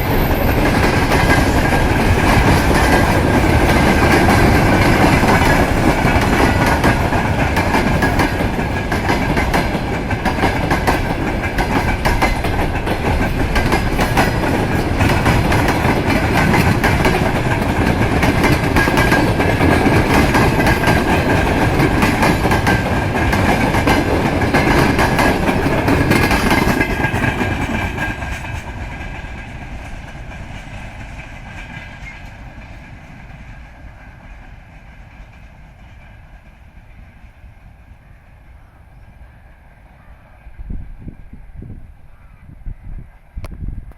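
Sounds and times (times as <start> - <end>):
freight train wheels clattering: 0.0 - 37.4.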